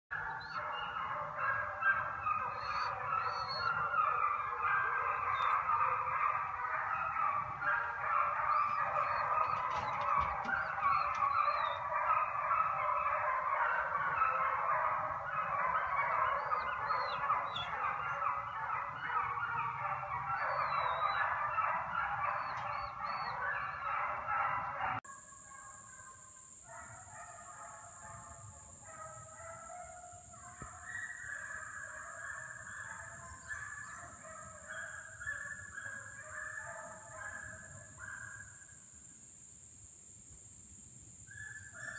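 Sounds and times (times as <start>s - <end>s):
hounds baying: 0.1s - 38.6s, 41.3s - 41.9s.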